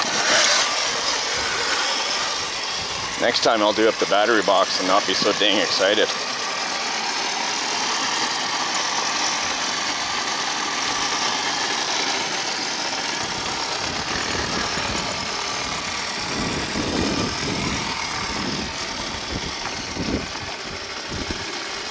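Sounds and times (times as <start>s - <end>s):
tyre noise on pavement: 0.0s - 6.4s, 8.1s - 21.9s
rc truck motor whirring: 0.0s - 21.9s.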